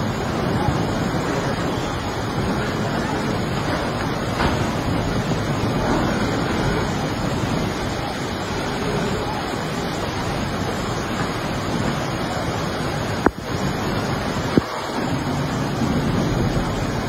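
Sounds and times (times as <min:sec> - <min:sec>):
river rushing: 0:00.0 - 0:17.0
wind noise on microphone: 0:00.0 - 0:17.0.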